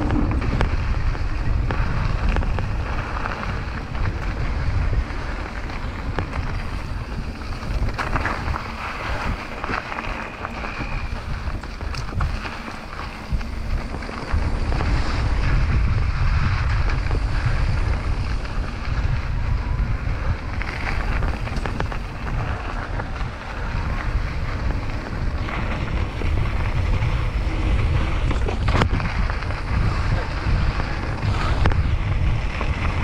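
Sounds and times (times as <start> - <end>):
bicycle tyre noise on dirt: 0.0 - 33.0
bike clicks and rattles: 0.0 - 33.0
wind buffeting microphone: 0.0 - 33.0.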